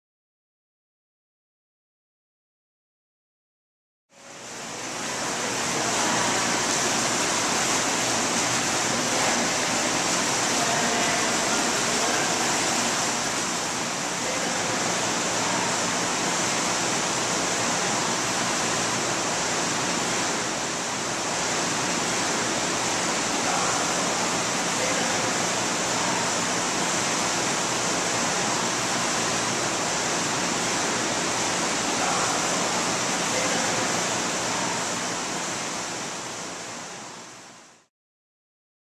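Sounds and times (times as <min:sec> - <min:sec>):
rushing water: 0:04.1 - 0:37.9.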